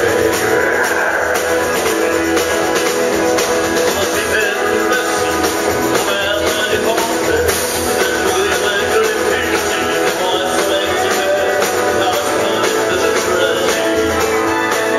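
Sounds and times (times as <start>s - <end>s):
live country band playing: 0.0s - 14.9s.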